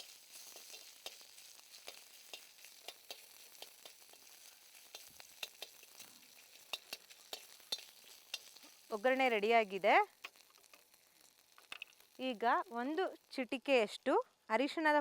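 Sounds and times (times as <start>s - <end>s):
hot oil sizzling: 0.0s - 15.0s
spices crackling: 0.0s - 15.0s.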